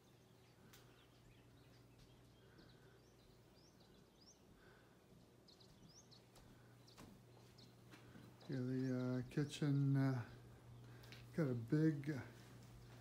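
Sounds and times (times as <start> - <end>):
faint bird chirps: 0.0 - 11.9
low steady hum: 0.0 - 13.0.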